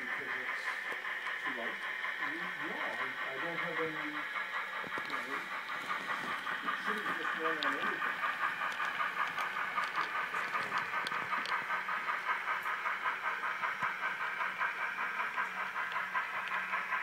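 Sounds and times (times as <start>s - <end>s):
model train rhythmic hissing: 0.0s - 17.0s.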